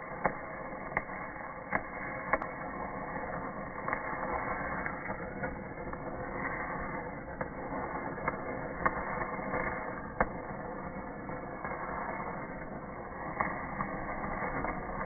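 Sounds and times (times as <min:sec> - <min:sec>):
welding arc crackling and popping: 0:00.0 - 0:15.0.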